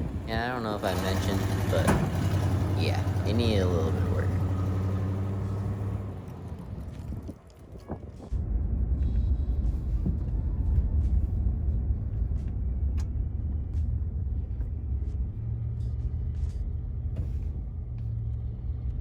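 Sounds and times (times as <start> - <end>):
steady low hum: 0.0 - 19.0
vehicle engine rumble: 0.0 - 19.0.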